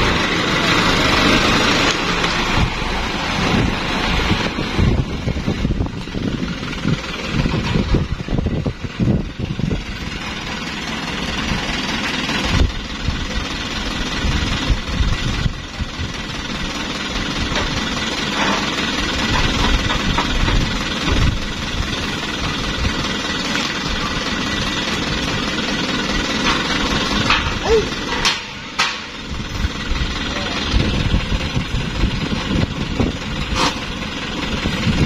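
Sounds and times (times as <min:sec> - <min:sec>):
diesel truck engine rumbling: 0:00.0 - 0:35.0.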